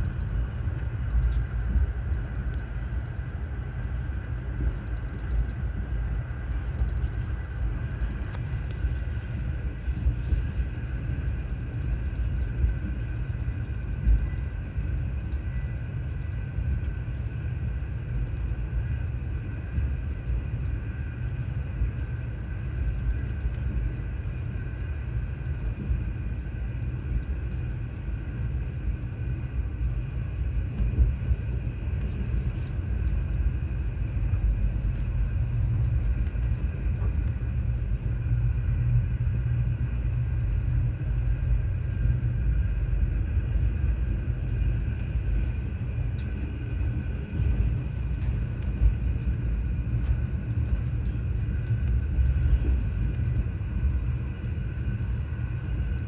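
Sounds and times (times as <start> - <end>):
faint high whine: 0.0 - 56.0
train rumbling on track: 0.0 - 56.0.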